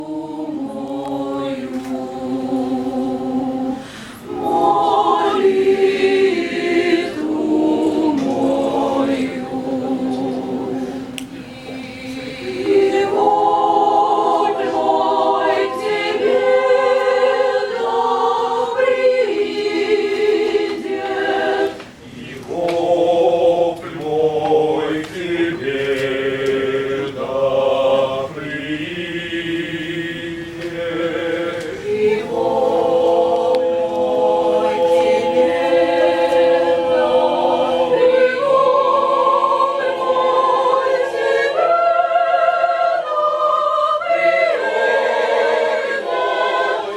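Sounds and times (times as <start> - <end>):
choir singing a cappella: 0.0 - 46.9.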